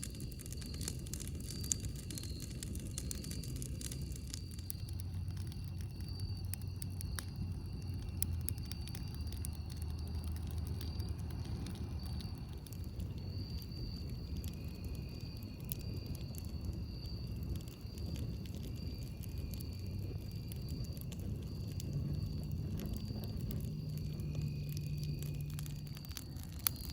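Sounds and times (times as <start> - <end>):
campfire crackling and popping: 0.0 - 26.9
steady low rumble: 0.0 - 26.9.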